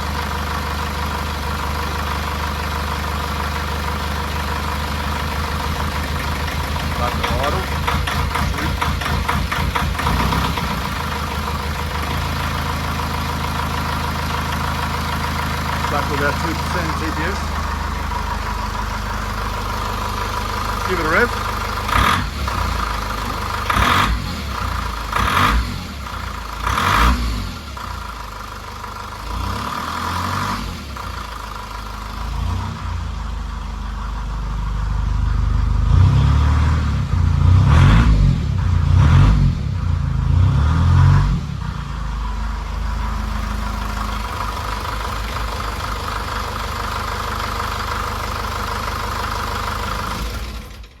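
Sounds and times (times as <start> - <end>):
car engine revving and idling: 0.0 - 51.0.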